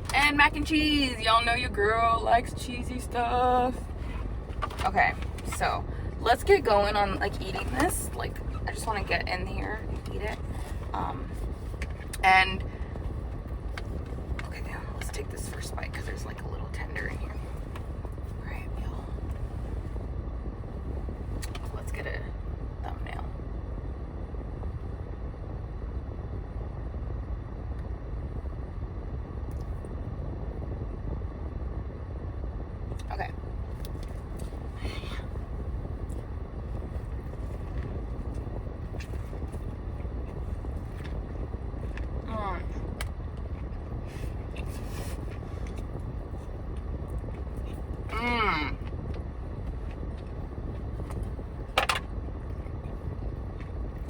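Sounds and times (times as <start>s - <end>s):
low rumble inside parked car: 0.0s - 54.0s.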